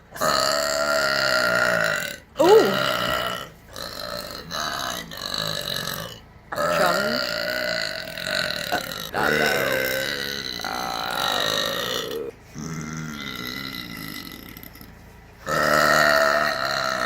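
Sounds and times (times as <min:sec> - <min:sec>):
woman belching: 0:00.2 - 0:17.0.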